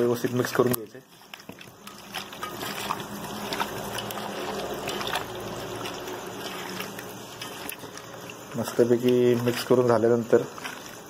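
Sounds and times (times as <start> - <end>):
wet sticky mixing by hand: 0.0 - 11.0.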